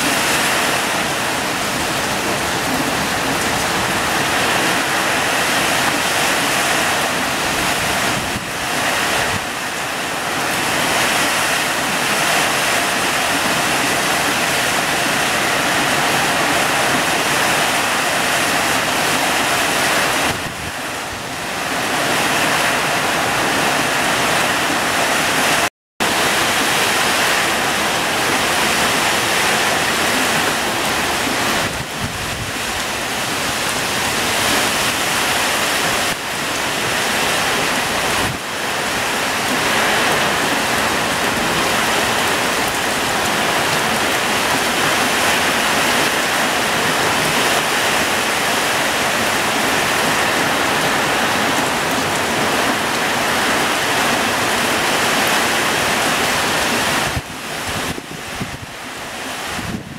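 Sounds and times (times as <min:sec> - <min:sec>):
heavy rain pouring: 0:00.0 - 0:59.9
strong wind in trees: 0:00.0 - 0:59.9.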